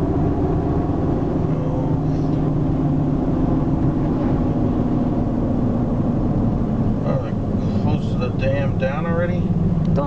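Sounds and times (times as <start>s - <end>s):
car engine and tyre drone: 0.0s - 10.0s.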